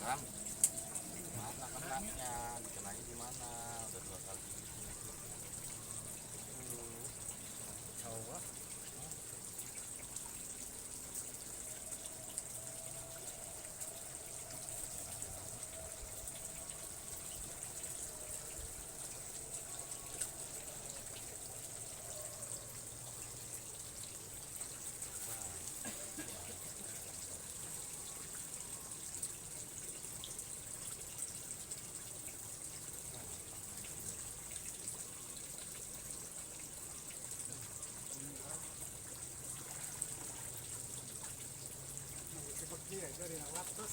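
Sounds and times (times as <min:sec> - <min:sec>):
constant high hiss: 0:00.0 - 0:43.9
running water trickling: 0:00.0 - 0:43.9.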